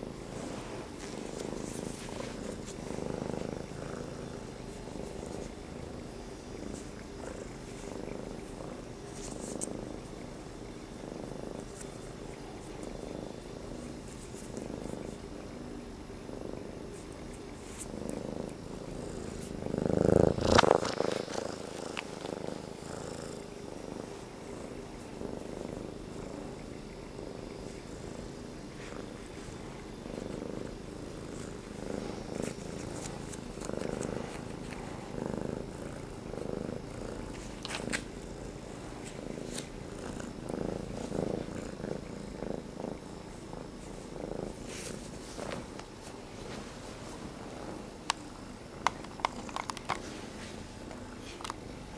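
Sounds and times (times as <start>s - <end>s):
kitten purring: 0.0s - 51.9s.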